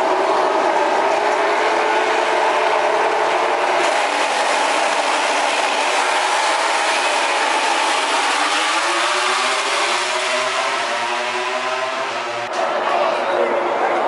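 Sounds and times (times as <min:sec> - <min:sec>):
racing motorcycle engines running: 0:00.0 - 0:12.5.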